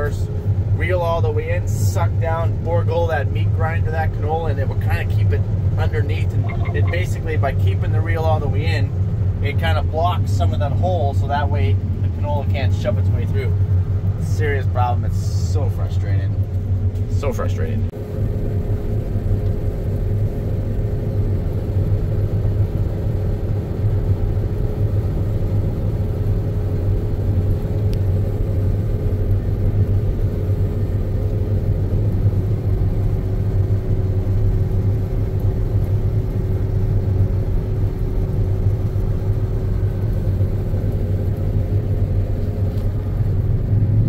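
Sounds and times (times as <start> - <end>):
combine harvester drone: 0.0 - 44.0
faint steady hum: 0.0 - 44.0.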